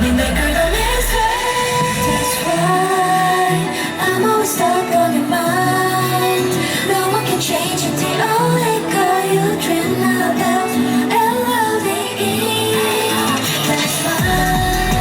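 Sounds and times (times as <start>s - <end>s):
woman singing pop song: 0.0s - 15.0s.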